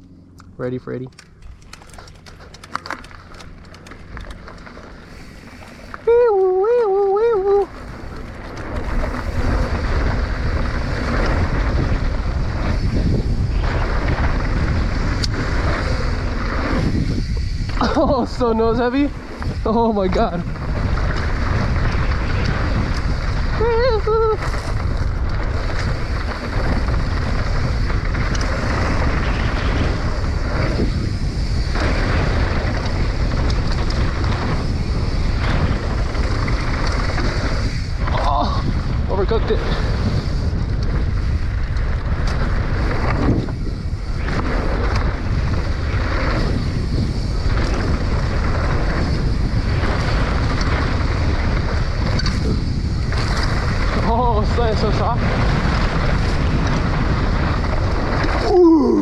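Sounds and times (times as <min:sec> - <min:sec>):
wind buffeting microphone: 0:01.1 - 0:59.0.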